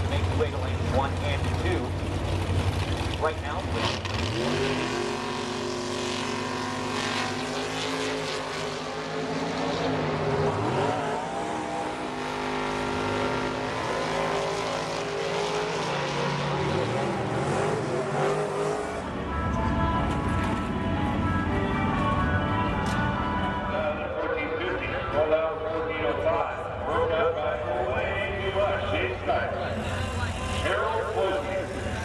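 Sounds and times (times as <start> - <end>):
drag racing car engines revving: 0.0 - 32.0.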